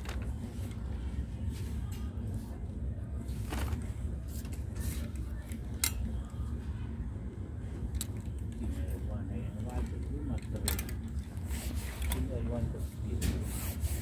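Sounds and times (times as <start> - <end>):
low hum of shop background: 0.0 - 14.0.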